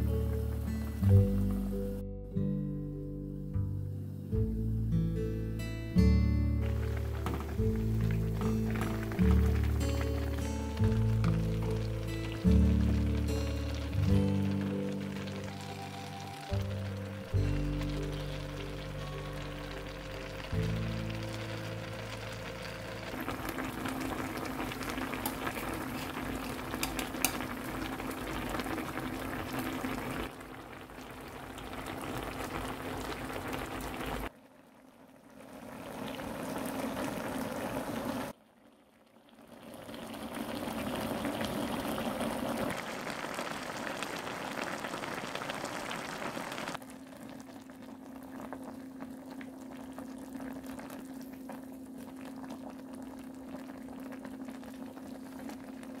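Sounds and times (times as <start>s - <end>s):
stew boiling and bubbling: 0.0s - 2.0s, 6.0s - 56.0s.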